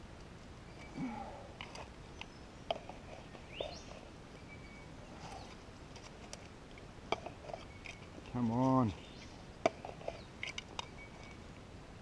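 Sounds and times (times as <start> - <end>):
rustling soil and leaves: 0.0 - 12.0.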